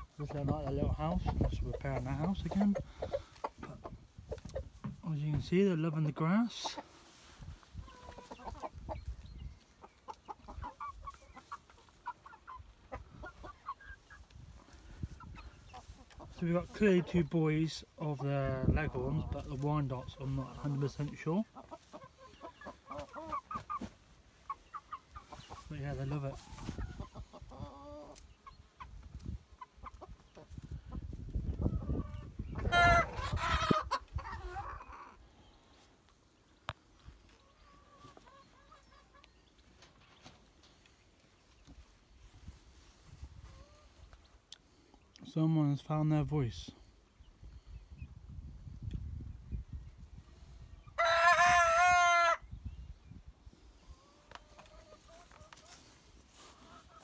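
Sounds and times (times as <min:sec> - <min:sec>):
chickens clucking and peeping: 0:00.0 - 0:57.0.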